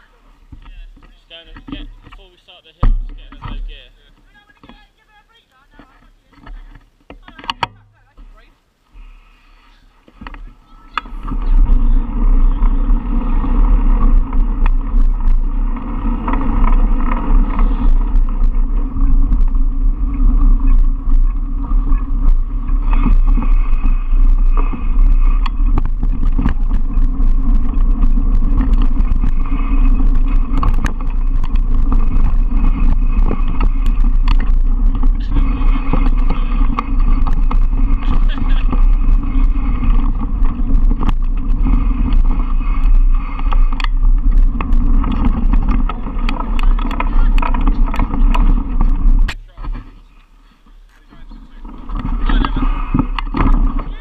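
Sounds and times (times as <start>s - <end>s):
mountain bike rattling on trail: 0.0s - 8.5s, 9.4s - 54.0s
bike knocking over bumps: 0.5s - 8.4s, 10.0s - 50.1s, 50.7s - 54.0s
wind rushing on microphone: 9.0s - 54.0s.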